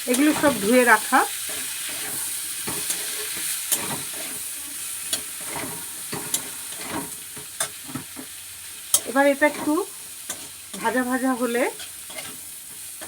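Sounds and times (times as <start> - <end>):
food sizzling in a pan: 0.0 - 13.0
spatula scraping and knocking pan: 0.0 - 13.0.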